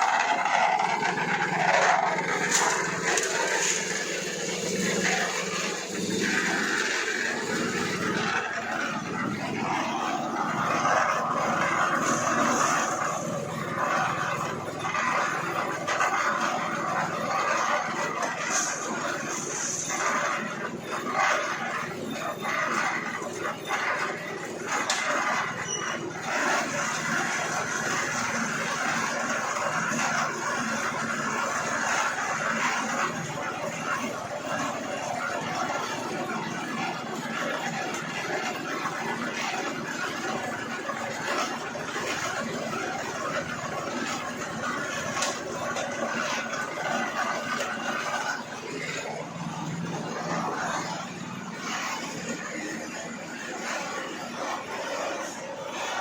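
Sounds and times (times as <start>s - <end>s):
concrete mixer running: 0.0s - 56.0s.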